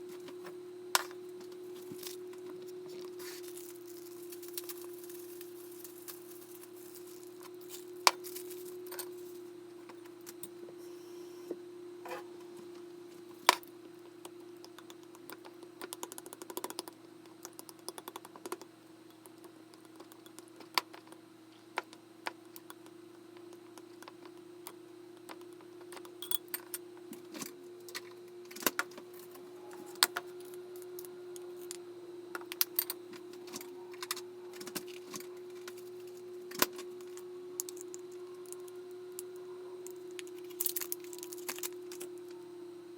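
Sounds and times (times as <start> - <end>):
kitchen appliance electrical hum: 0.0 - 42.9.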